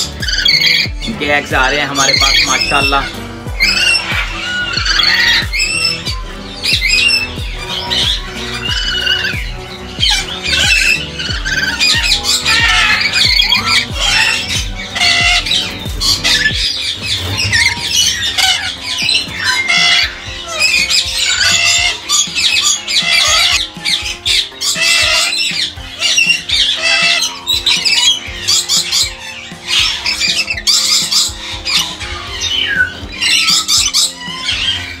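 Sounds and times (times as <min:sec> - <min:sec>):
parrots screeching and chattering: 0:00.0 - 0:35.0.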